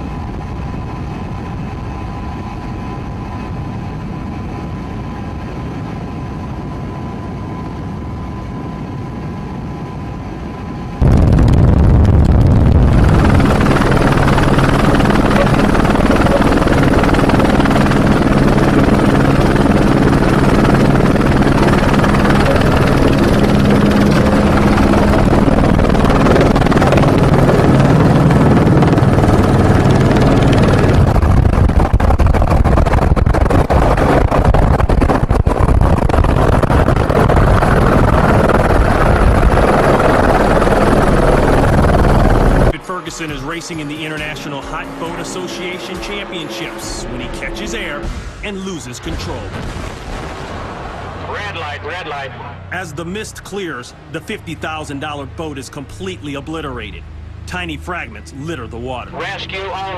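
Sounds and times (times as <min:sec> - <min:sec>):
engine drone: 0:00.0 - 0:59.9
high whine: 0:00.0 - 0:59.9.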